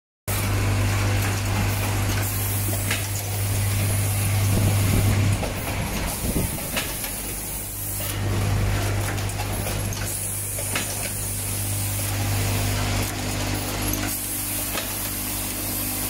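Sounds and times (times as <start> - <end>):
machinery humming: 0.3 - 16.0.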